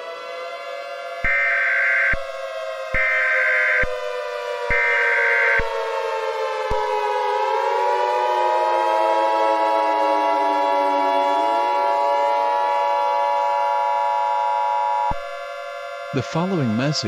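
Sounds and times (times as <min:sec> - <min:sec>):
civil defense siren winding: 0:00.0 - 0:17.0
emergency alert data tones: 0:00.6 - 0:17.0.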